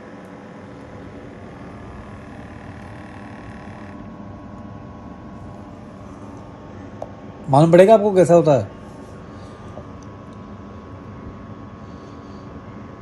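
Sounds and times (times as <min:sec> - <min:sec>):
air pump motor humming: 0:00.0 - 0:13.0.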